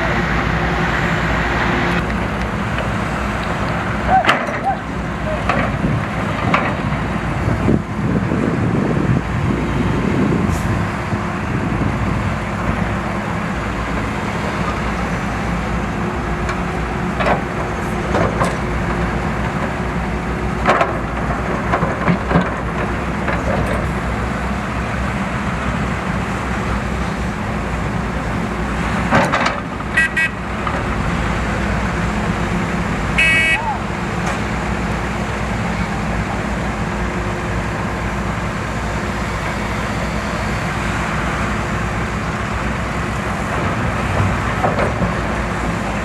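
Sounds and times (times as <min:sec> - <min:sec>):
construction machinery engines running: 0:00.0 - 0:46.0.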